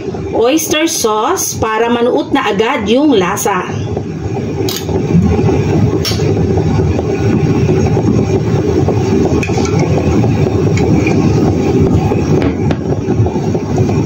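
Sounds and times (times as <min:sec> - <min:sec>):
low rattling rumble: 0:00.0 - 0:14.0.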